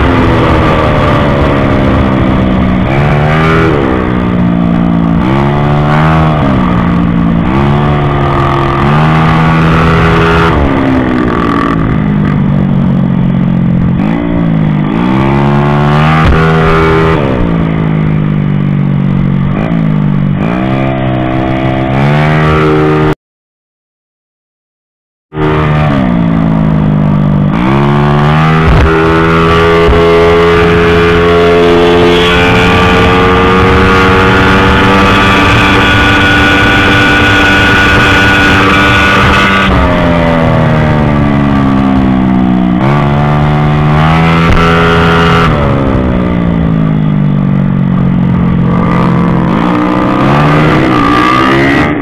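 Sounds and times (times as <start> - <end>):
scooter engine at high revs: 0.0 - 23.2, 25.4 - 52.0.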